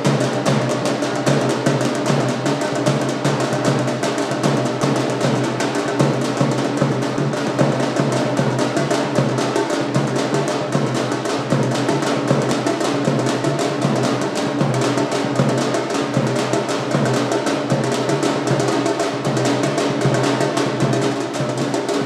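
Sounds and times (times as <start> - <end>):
fast dense drumming: 0.0 - 22.0.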